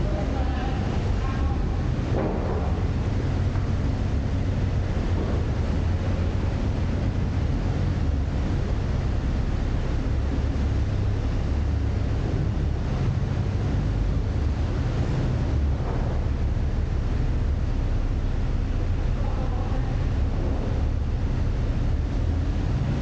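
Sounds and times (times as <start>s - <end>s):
engine drone: 0.0s - 23.0s
water noise: 0.0s - 23.0s.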